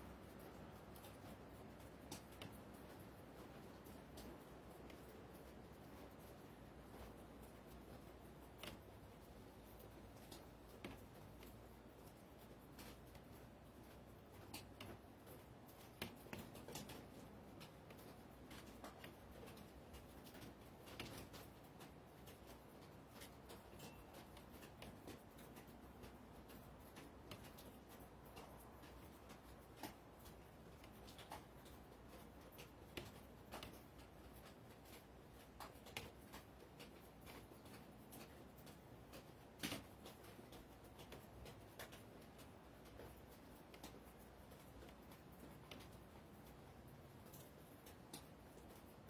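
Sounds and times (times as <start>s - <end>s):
faint clicks and taps: 0.0s - 49.0s.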